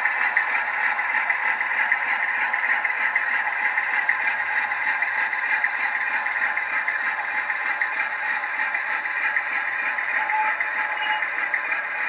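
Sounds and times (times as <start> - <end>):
diesel engine sound from small speaker: 0.0 - 12.0.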